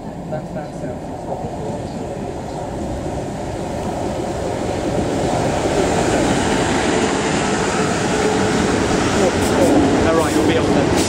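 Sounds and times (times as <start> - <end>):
electric train wheels on rails: 0.0 - 11.0
train traction equipment: 0.0 - 11.0.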